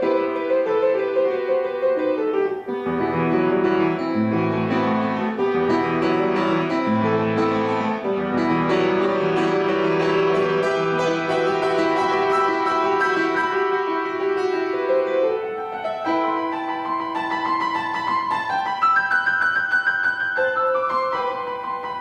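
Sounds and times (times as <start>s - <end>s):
solo piano playing classical piece: 0.0s - 22.0s.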